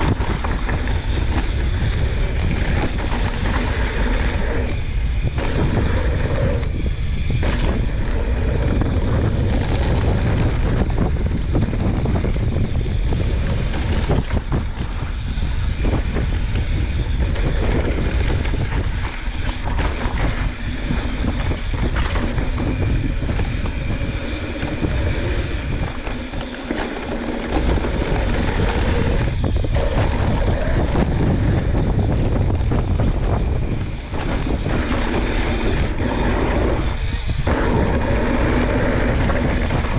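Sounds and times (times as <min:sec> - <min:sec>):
bike knocks and rattles: 0:00.0 - 0:39.9
bike tyres rolling on dirt: 0:00.0 - 0:39.9
wind buffeting microphone: 0:00.0 - 0:39.9.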